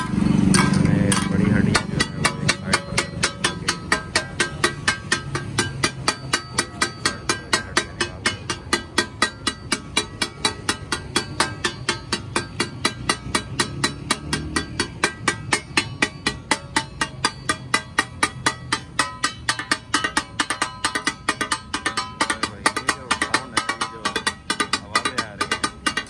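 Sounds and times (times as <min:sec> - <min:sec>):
metal spatulas clattering on griddle: 0:00.0 - 0:26.0.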